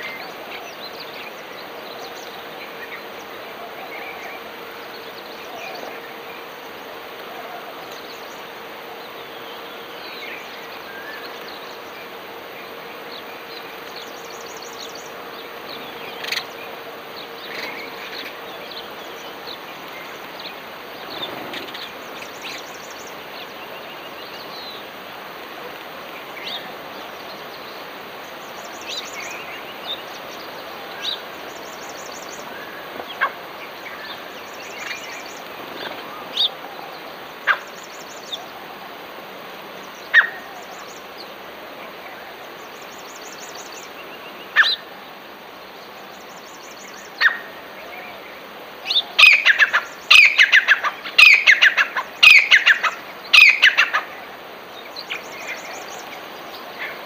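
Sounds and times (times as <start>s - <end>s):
songbirds chirping: 0.0s - 57.0s
steady outdoor hiss: 0.0s - 57.0s.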